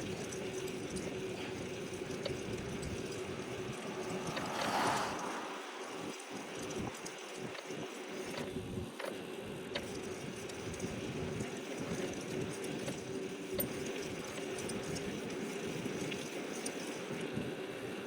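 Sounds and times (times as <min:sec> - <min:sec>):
light rattling ticks: 0:00.0 - 0:17.4
rolling and wind noise: 0:00.0 - 0:18.0.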